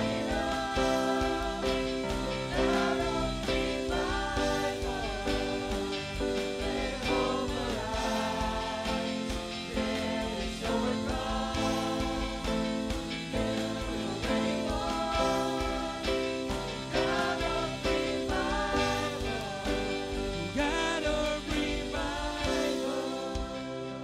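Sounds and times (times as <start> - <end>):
acoustic guitar and band: 0.0 - 24.0
group singing a slow chorus: 0.0 - 24.0.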